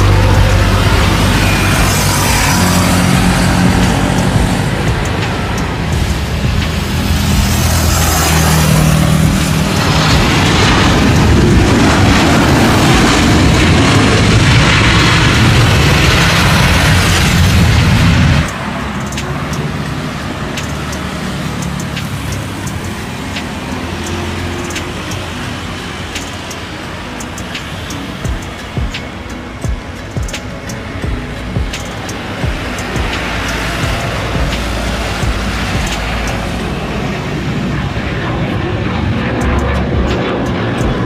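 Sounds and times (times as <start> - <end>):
jet airliner landing: 0.0 - 41.0
jet airliner rolling on runway: 0.0 - 41.0
music playing: 0.0 - 41.0.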